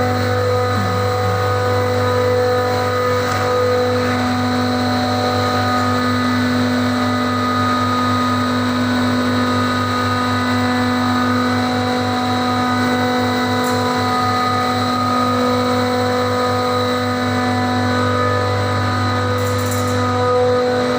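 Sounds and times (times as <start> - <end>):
machinery humming: 0.0 - 20.9.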